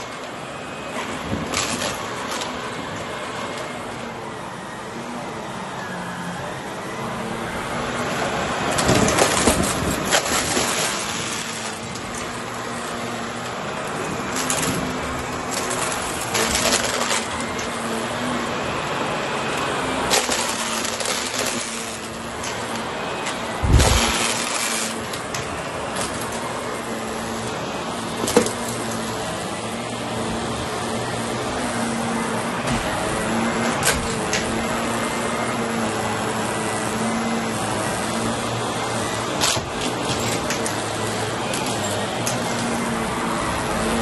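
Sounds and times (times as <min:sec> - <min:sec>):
debris clattering in vacuum: 0:00.0 - 0:05.6, 0:06.2 - 0:44.0
vacuum cleaner running: 0:00.0 - 0:44.0.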